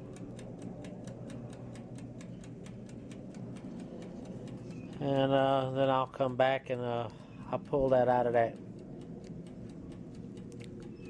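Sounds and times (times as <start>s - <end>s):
low steady hum: 0.0s - 11.0s
wind-up timer ticking: 0.0s - 11.0s.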